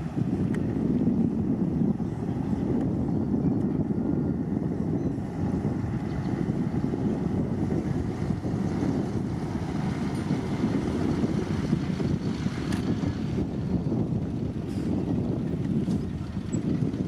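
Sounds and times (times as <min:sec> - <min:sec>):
heavy earthmoving machinery rumbling: 0:00.0 - 0:17.0.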